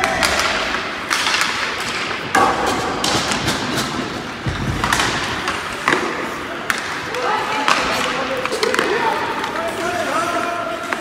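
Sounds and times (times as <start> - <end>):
hockey puck and sticks knocking: 0.0 - 11.0
ice arena play noise: 0.0 - 11.0.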